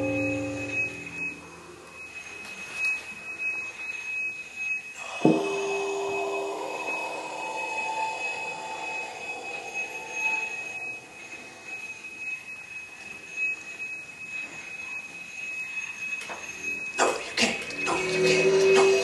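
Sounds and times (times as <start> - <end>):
percussion disc ringing: 0.0 - 19.0
steady high tone: 0.0 - 19.0.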